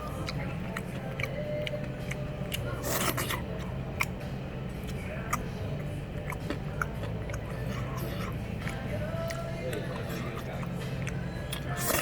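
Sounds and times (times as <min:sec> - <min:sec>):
eating noises: 0:00.0 - 0:12.0
steady low hum: 0:00.0 - 0:12.0.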